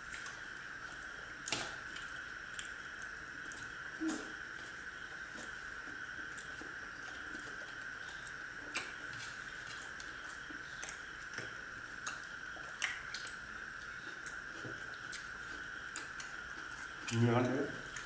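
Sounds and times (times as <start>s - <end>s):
steady high-pitched hum: 0.0s - 18.0s.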